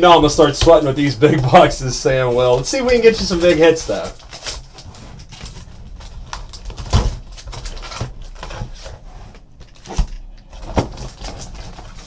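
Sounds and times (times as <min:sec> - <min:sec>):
cardboard box rustling and scraping: 0:01.2 - 0:12.0.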